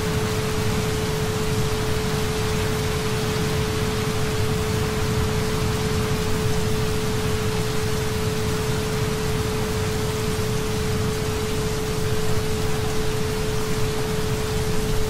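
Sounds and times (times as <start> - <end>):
constant pure tone: 0.0 - 15.0
steady rain falling: 0.0 - 15.0.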